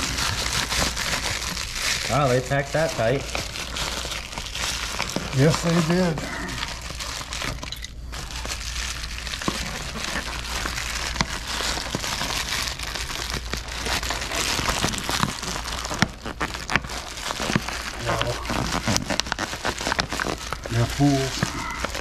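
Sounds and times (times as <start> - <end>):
plastic mailers crinkling and rustling: 0.0 - 22.0.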